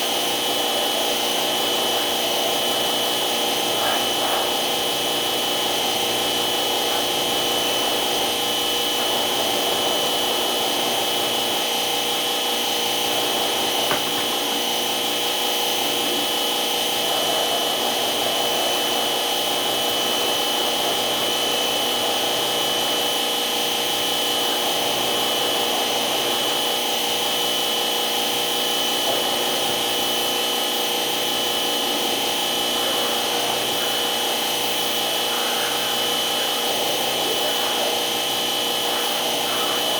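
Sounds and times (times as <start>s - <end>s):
high-pitched whine: 0.0s - 39.9s
machine noise: 0.0s - 39.9s.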